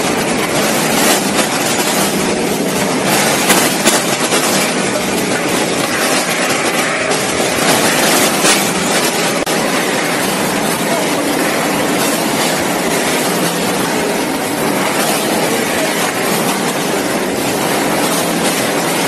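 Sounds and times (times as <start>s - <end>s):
packing machine running: 0.0s - 19.0s.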